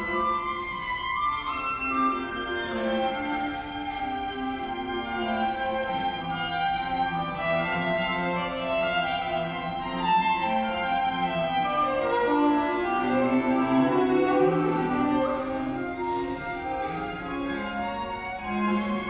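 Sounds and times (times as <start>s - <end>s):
string quartet playing: 0.0s - 19.0s.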